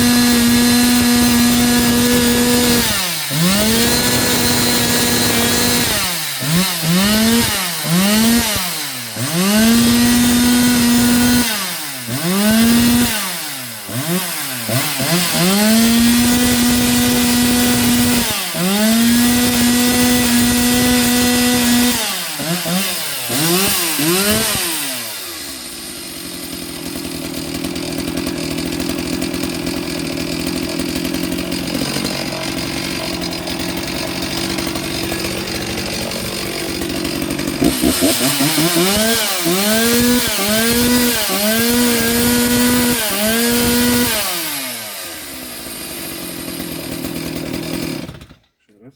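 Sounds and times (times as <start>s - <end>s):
chainsaw engine revving: 0.0s - 48.8s.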